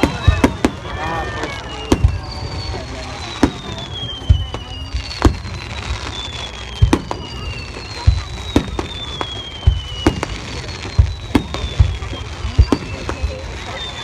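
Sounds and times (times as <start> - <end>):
fireworks booming: 0.0 - 14.0
fireworks whistling: 0.0 - 14.0.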